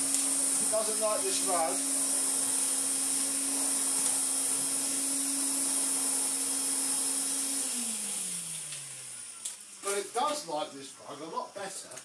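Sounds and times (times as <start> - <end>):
vacuum cleaner running: 0.0 - 10.7.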